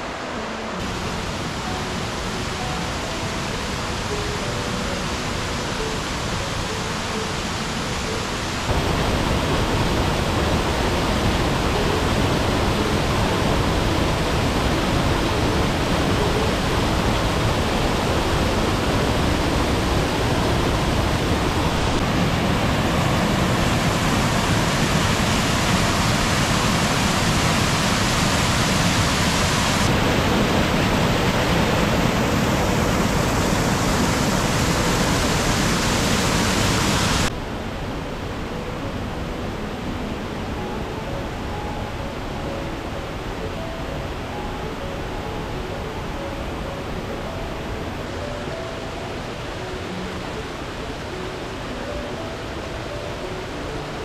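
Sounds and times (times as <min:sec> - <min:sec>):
river rushing over boulders: 0:00.0 - 0:54.0.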